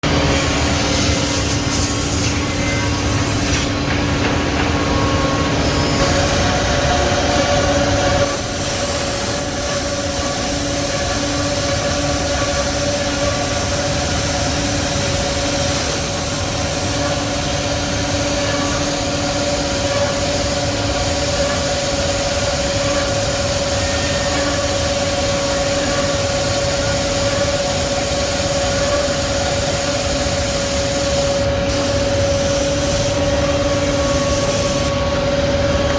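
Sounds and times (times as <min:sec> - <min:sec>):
continuous noisy hum: 0:00.0 - 0:35.9
milling machine spindle whine: 0:00.1 - 0:35.9.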